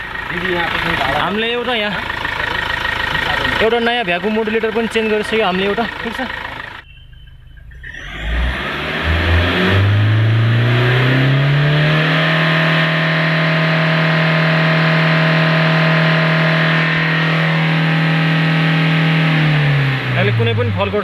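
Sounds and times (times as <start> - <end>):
diesel engine revving: 0.0 - 6.8, 7.4 - 21.0.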